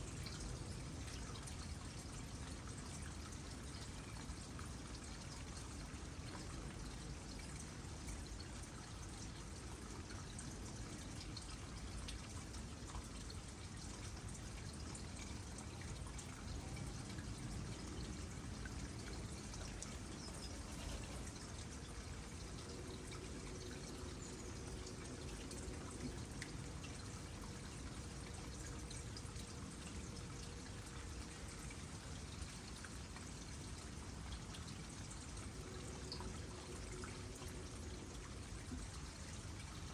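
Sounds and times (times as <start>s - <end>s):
small water drips: 0.0s - 39.9s
water trickling into pond: 0.0s - 39.9s.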